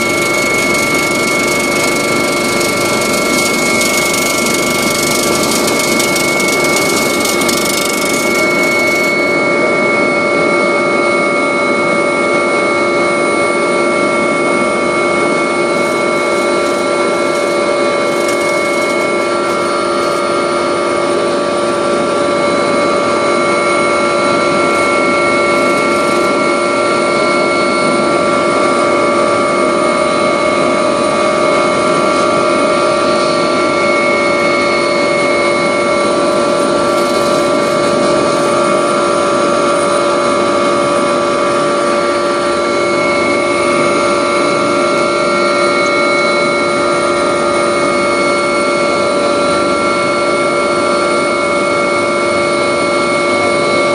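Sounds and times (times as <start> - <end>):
helicopter turbine and rotor: 0.0 - 53.9.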